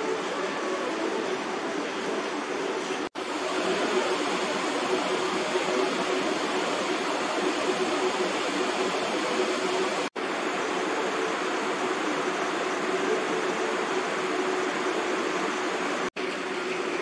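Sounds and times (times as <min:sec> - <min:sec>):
faint hum: 0:00.0 - 0:17.0
steady rushing noise: 0:00.0 - 0:17.0.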